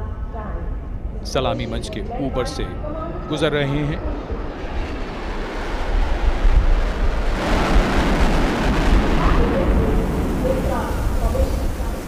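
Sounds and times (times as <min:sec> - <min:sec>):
jet engines roaring overhead: 0:00.8 - 0:12.0.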